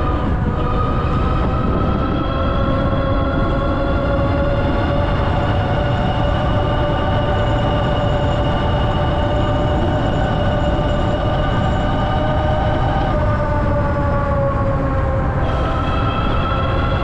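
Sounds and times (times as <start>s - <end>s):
low rumble of riding: 0.0s - 17.0s.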